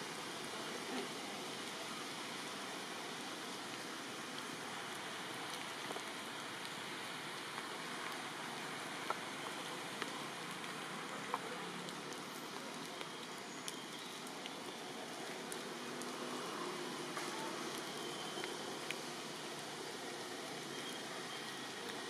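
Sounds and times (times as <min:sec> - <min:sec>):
steady rain: 0:00.0 - 0:22.0
close water drips: 0:03.6 - 0:22.0.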